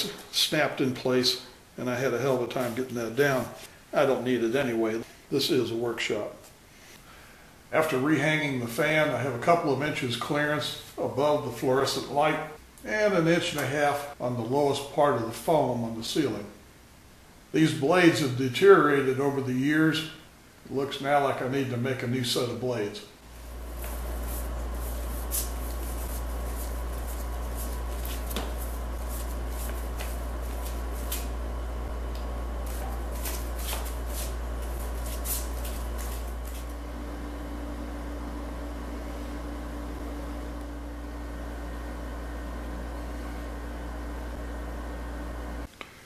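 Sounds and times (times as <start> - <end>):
low workshop hum: 0.0 - 46.0.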